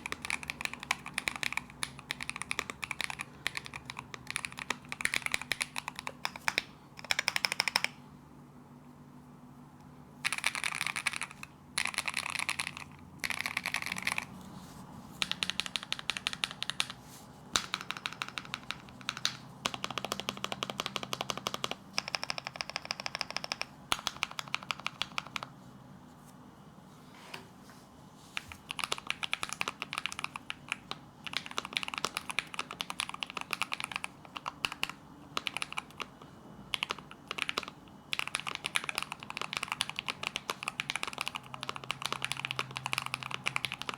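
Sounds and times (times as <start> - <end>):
mechanical keyboard typing: 0.0 - 8.0, 10.2 - 14.4, 15.2 - 17.0, 17.6 - 25.5, 28.4 - 43.9.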